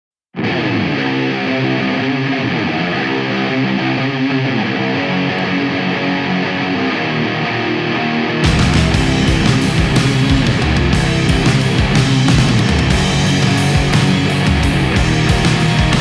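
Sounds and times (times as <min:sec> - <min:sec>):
distorted electric guitar riff: 0:00.4 - 0:16.0
rock band with bass and drums: 0:00.4 - 0:16.0.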